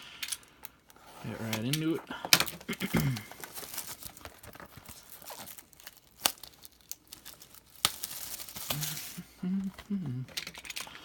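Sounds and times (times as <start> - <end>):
plastic wrapping crinkling and tearing: 0.2 - 11.0.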